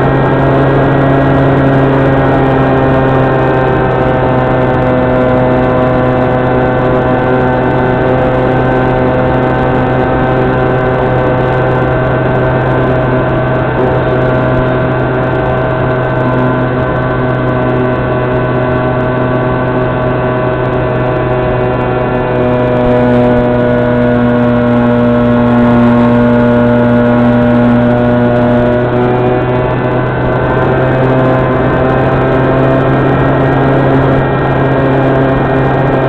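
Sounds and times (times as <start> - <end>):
electric motor and propeller humming: 0.0 - 36.0
rushing air noise: 0.0 - 36.0.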